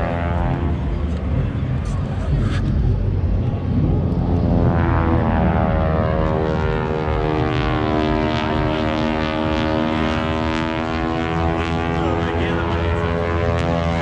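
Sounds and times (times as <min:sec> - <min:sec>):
propeller airplane flying past: 0:00.0 - 0:14.0.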